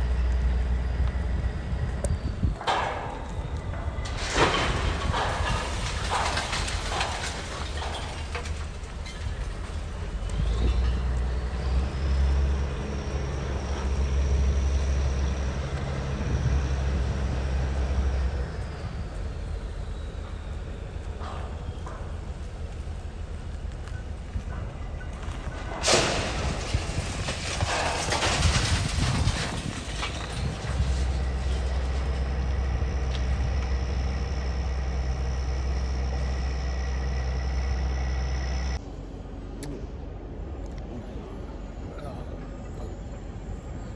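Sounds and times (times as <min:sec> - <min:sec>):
diesel engine low rumble: 0:00.0 - 0:43.9.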